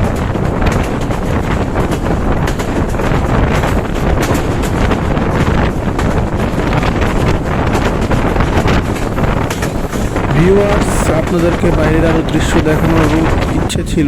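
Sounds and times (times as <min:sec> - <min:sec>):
train running rush: 0:00.0 - 0:14.0
wheels clattering on rails: 0:00.1 - 0:14.0.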